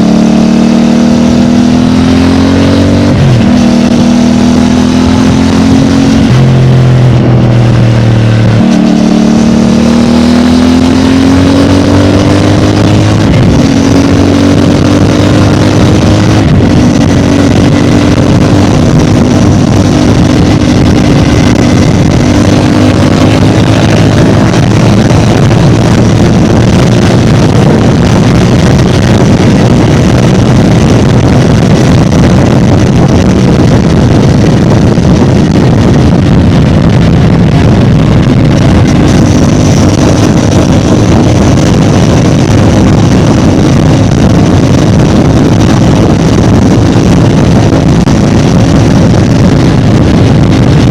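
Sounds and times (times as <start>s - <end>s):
wind rush: 0.0s - 50.9s.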